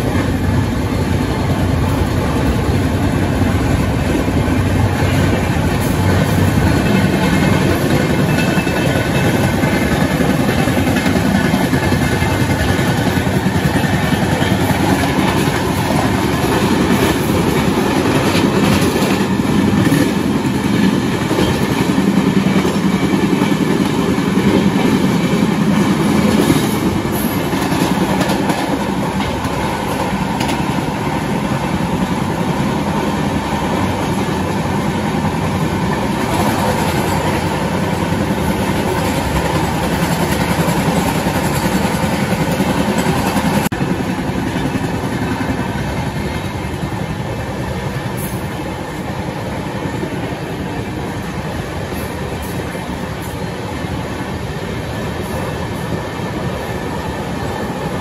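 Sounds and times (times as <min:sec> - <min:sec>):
passing train alongside: 0:00.0 - 0:58.0
train wheels rumbling on track: 0:00.0 - 0:58.0.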